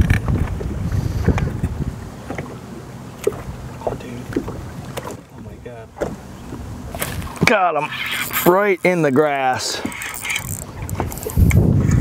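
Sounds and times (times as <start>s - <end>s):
wind rumbling on microphone: 0.0s - 8.6s, 9.8s - 12.0s.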